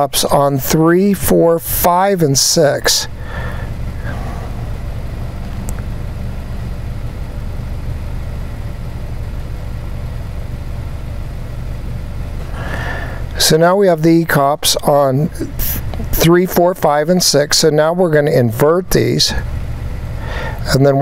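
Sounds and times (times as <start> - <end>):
car engine idling: 0.1 - 20.8.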